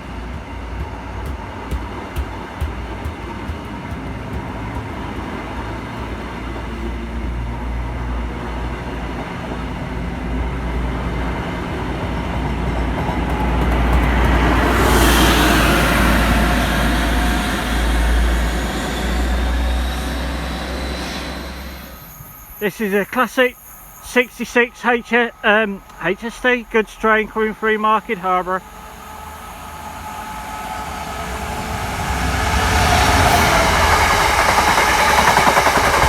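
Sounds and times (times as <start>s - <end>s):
train passing rumble: 0.0s - 36.0s.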